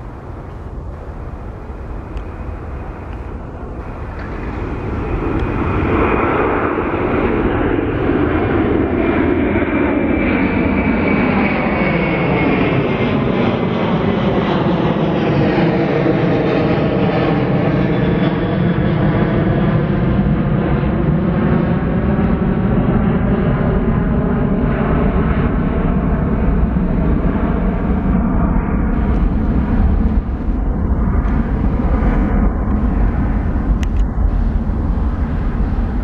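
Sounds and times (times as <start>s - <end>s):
jet aircraft rumble: 0.0s - 36.0s
jet engine whine sliding down: 0.0s - 36.0s.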